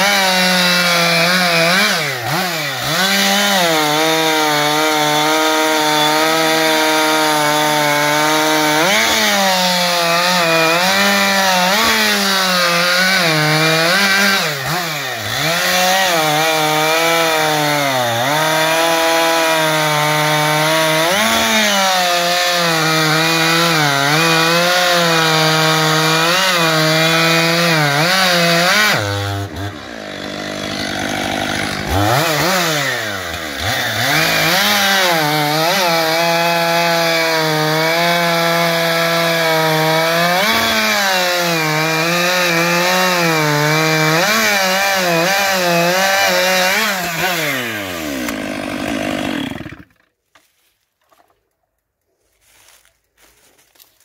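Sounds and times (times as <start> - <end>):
chainsaw cutting through log: 0.0 - 50.5.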